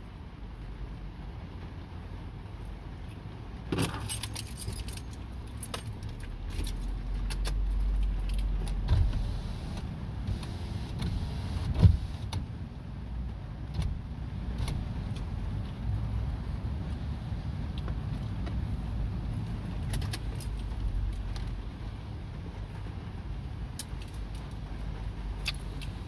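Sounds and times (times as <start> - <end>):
vehicle cab rumble: 0.0 - 26.0.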